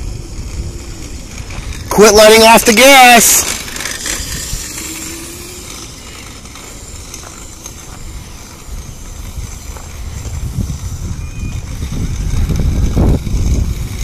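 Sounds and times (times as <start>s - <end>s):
electric dirt bike rumbling: 0.0s - 14.0s.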